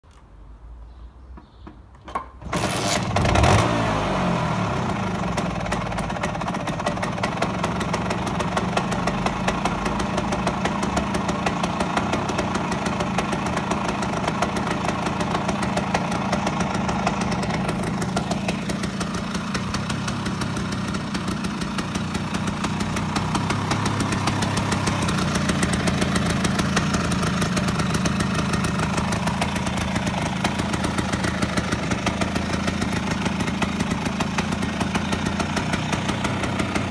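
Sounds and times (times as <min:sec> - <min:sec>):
scooter engine starting and idling: 0:01.4 - 0:36.9.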